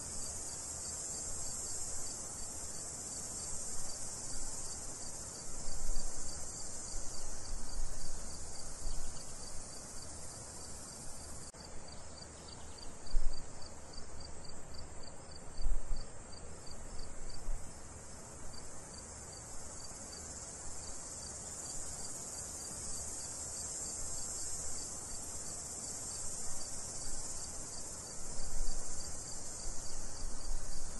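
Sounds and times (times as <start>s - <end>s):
crickets chirping: 0.0s - 30.9s
high insect drone: 0.0s - 30.9s.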